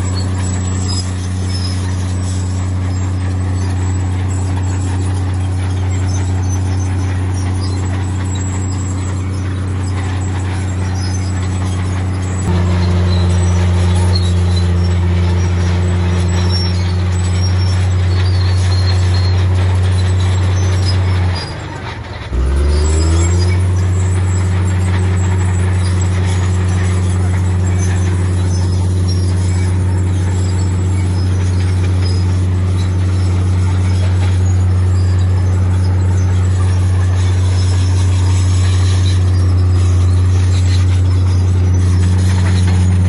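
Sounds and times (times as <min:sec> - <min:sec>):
heavy diesel machinery engine drone: 0:00.0 - 0:43.0.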